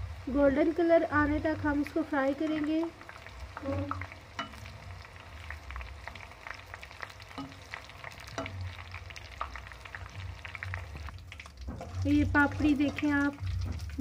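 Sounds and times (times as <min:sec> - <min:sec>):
dough crisps frying in oil: 0:00.0 - 0:14.0.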